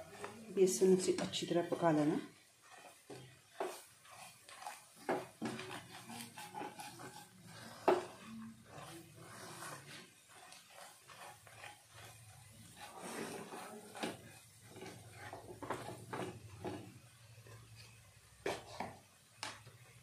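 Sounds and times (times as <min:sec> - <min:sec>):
spatula scraping frying pan: 0:00.0 - 0:19.8.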